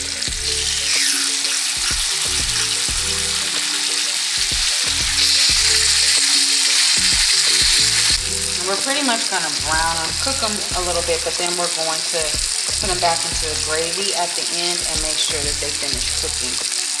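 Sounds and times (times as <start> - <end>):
background music: 0.0 - 17.0
meat sizzling in a pan: 0.0 - 17.0.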